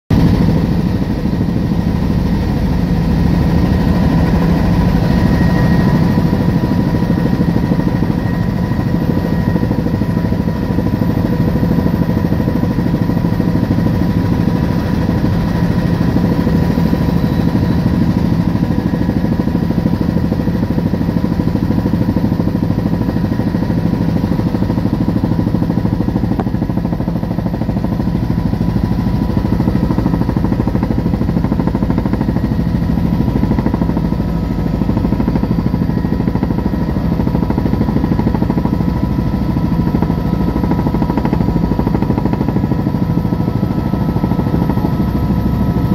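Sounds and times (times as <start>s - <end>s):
helicopter engine and rotor drone: 0.1s - 45.9s.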